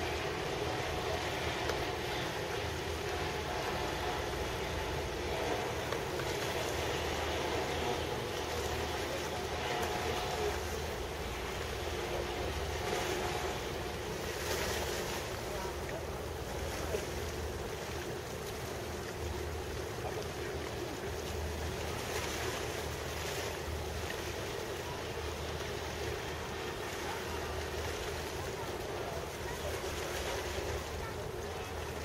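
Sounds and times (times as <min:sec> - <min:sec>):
harbour and ship hum: 0:00.0 - 0:32.0.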